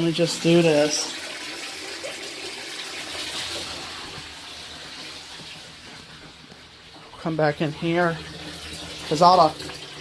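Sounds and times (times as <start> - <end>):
water running from a faucet: 0.0 - 10.0.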